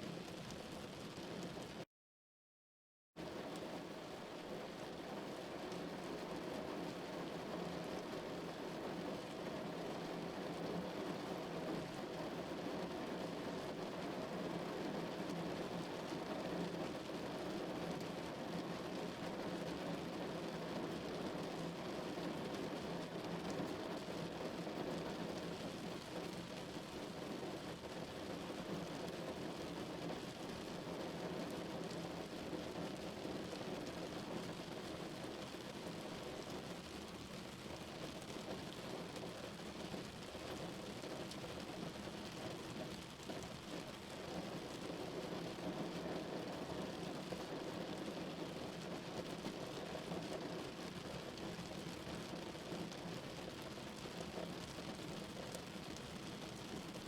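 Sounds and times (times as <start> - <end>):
rain on car roof: 0.1 - 1.8, 3.2 - 57.0.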